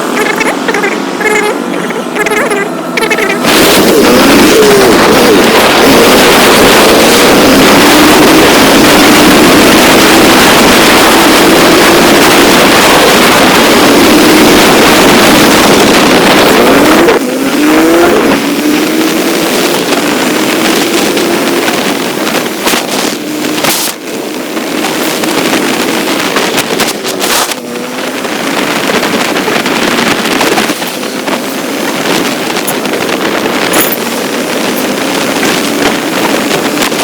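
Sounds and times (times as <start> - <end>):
motorcycle engine running: 0.0 - 37.0
wind rush on microphone: 0.0 - 37.0.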